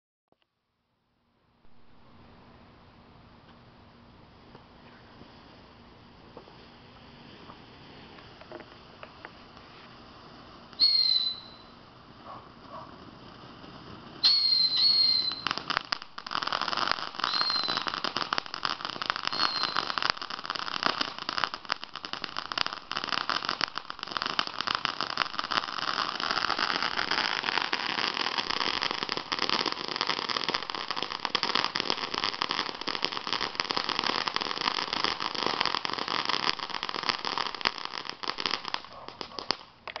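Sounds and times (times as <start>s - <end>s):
firework fountains crackling: 3.4s - 40.0s
firework whistles: 6.5s - 39.7s.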